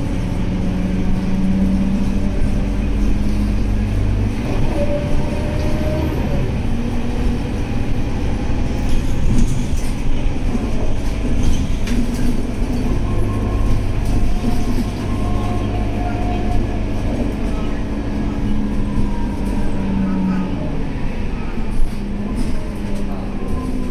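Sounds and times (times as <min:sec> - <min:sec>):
bus engine running: 0:00.0 - 0:23.9
road noise: 0:00.0 - 0:23.9.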